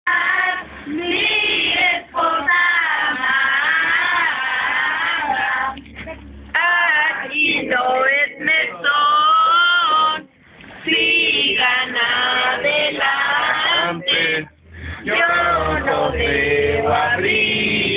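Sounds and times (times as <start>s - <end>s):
group singing a carol: 0.1s - 5.8s, 6.5s - 17.9s.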